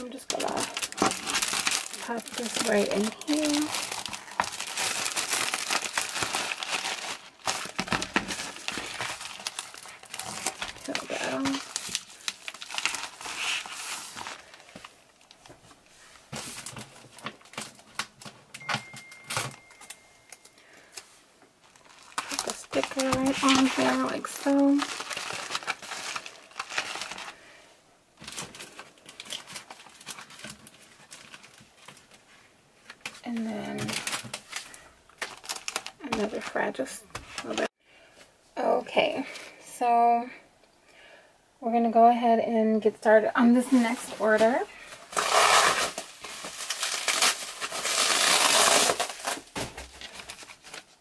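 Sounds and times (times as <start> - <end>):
plastic packaging crinkling: 0.0 - 27.4, 28.2 - 37.8, 43.7 - 51.0.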